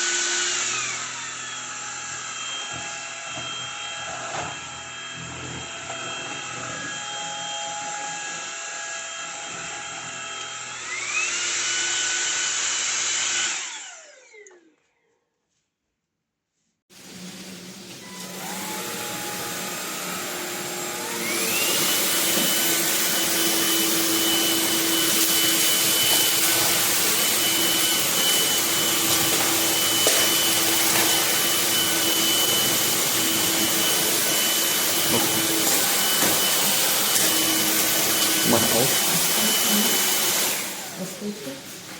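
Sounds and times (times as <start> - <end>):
stick vacuum motor whining: 0.0 - 14.8, 18.0 - 41.8.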